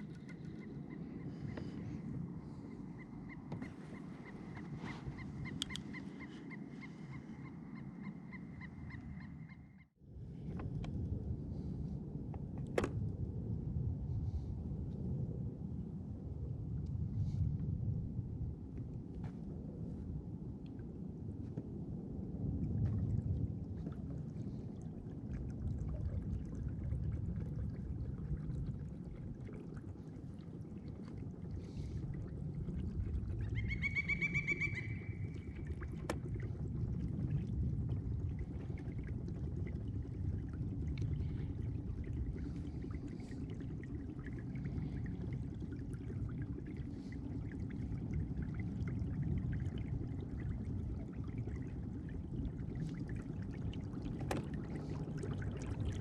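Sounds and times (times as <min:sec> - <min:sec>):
water rushing along a hull: 0:00.0 - 0:56.0.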